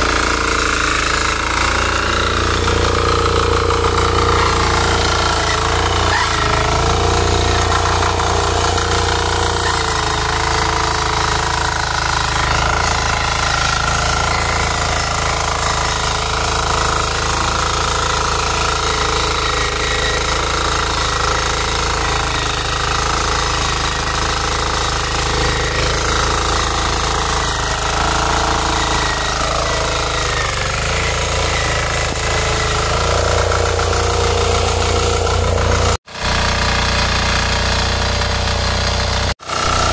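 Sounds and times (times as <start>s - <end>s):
power tiller engine running: 0.0s - 39.9s
tines churning soil: 0.0s - 39.9s.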